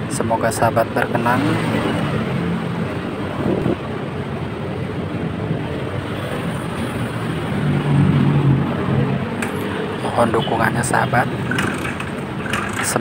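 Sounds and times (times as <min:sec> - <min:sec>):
road traffic passing: 0:00.0 - 0:13.0
vehicle engine: 0:00.9 - 0:13.0.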